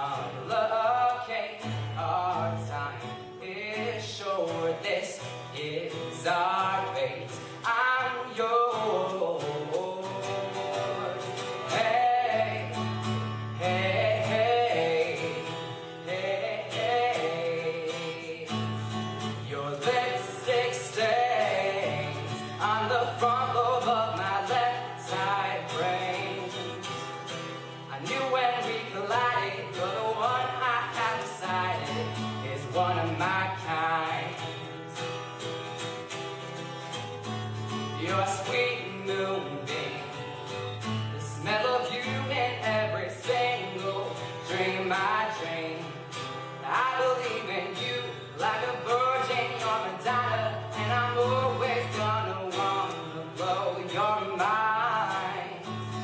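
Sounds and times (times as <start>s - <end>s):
man singing: 0.0s - 35.3s, 37.0s - 56.0s
strummed acoustic guitar: 0.0s - 56.0s.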